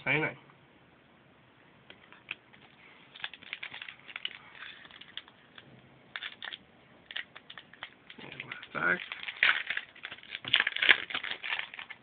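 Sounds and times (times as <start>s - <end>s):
trading cards clicking and rustling: 1.9s - 12.0s.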